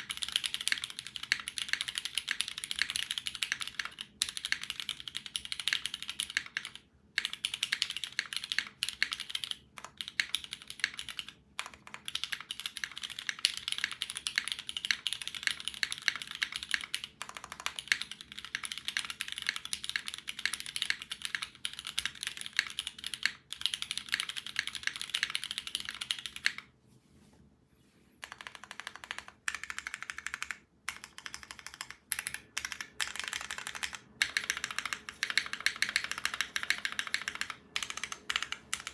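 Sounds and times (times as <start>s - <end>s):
mechanical keyboard typing: 0.0s - 26.7s, 28.2s - 38.9s.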